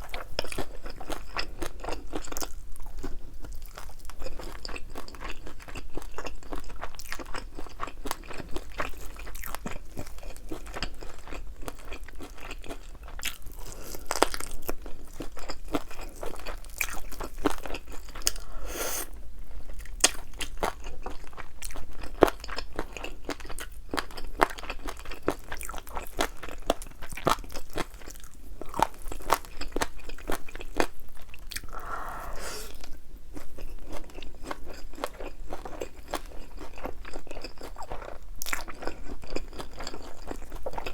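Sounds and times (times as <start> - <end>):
crunching and chewing fried chicken: 0.0 - 40.9.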